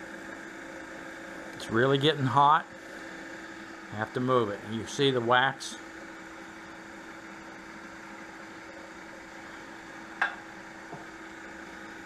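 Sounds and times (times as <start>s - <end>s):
wood lathe motor hum: 0.0s - 12.0s.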